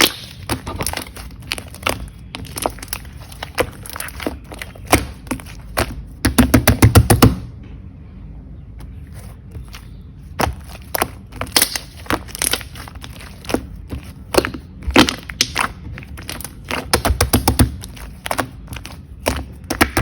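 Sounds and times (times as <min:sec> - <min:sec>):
slime squeezed popping and crackling: 0:00.0 - 0:07.4, 0:10.4 - 0:20.0.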